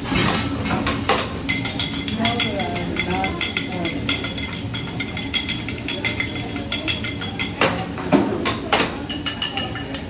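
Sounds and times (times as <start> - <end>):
metal spatulas clinking on griddle: 0.1 - 10.0.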